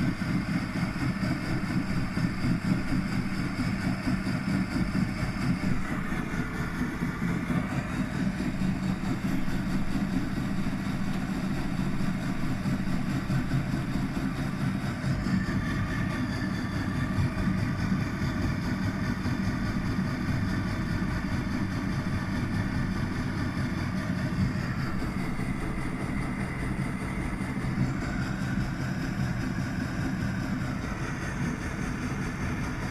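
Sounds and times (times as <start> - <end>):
washing machine running: 0.0 - 32.9.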